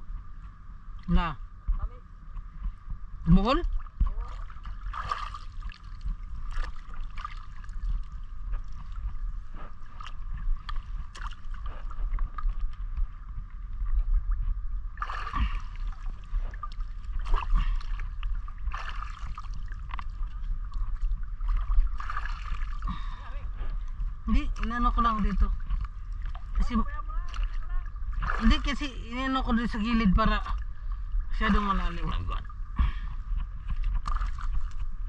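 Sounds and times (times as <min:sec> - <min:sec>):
steady low rumble: 0:00.0 - 0:35.0
seawater sloshing and splashing: 0:03.6 - 0:32.7, 0:33.6 - 0:35.0.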